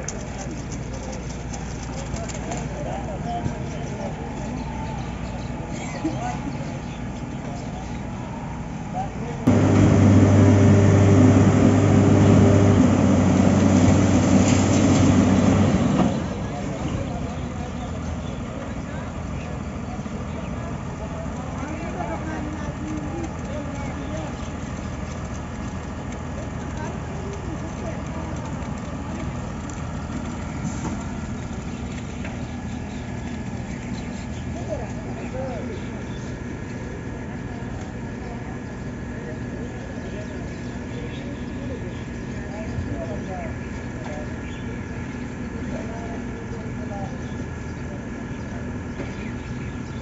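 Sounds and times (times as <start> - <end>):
diesel engine drone: 7.4 - 50.0.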